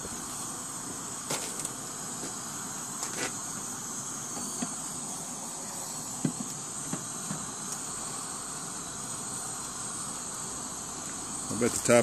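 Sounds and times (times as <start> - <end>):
gas burner hissing: 0.0 - 12.0.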